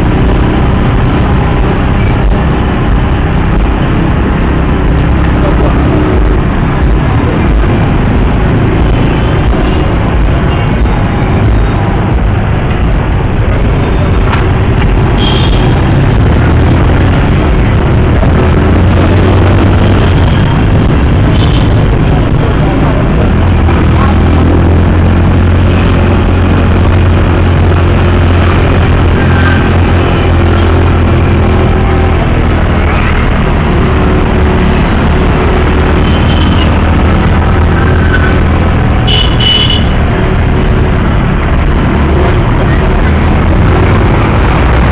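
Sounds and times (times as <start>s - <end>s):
motorcycle engine rumble: 0.0s - 44.9s
road and traffic noise: 0.0s - 44.9s.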